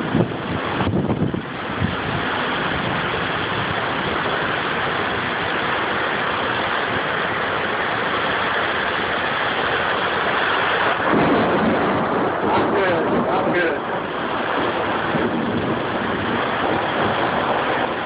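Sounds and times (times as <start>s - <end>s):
heavy rain hissing: 0.0s - 18.0s
wind buffeting microphone: 0.0s - 18.0s.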